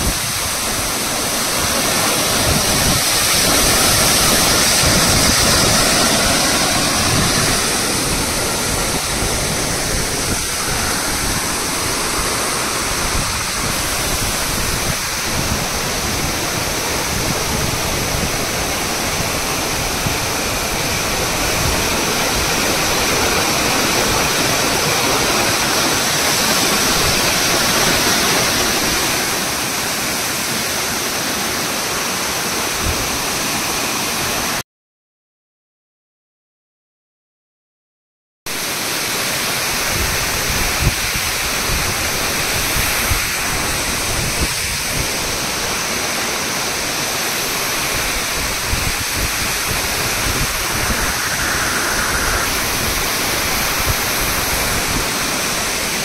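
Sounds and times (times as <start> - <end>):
waterfall rushing: 0.0 - 34.6, 38.6 - 56.0.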